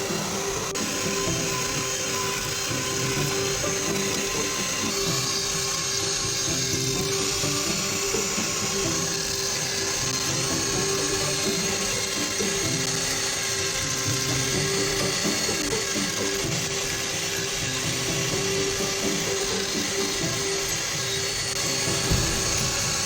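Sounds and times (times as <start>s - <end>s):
router motor whine: 0.0s - 23.0s.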